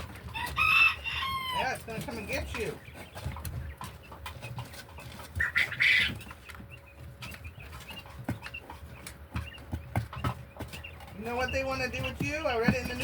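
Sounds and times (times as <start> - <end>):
chicken calling: 0.0 - 13.0.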